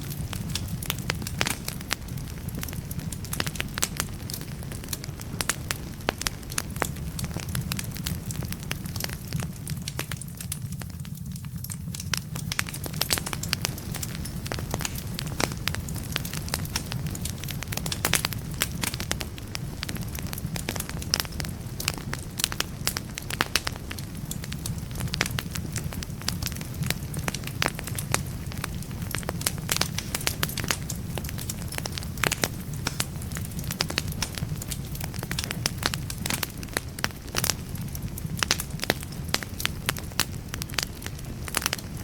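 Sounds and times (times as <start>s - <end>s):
fire low rumble: 0.0s - 42.0s
logs crackling and popping: 0.0s - 42.0s.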